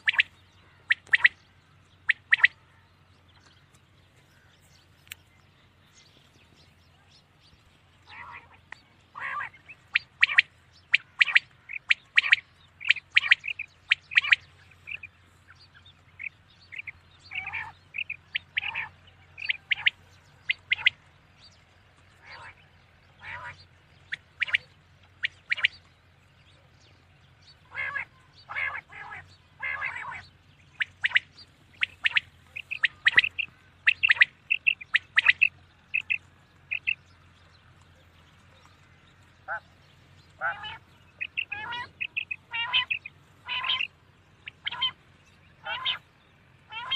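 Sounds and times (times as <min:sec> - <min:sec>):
quail calling: 0:00.0 - 0:03.0, 0:08.0 - 0:25.9, 0:27.4 - 0:37.2, 0:38.4 - 0:46.9.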